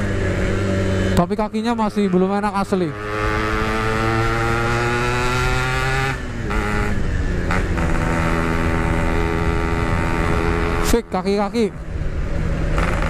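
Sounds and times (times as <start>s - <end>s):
two-stroke motorcycle engine revving: 0.0s - 11.3s, 12.6s - 13.0s.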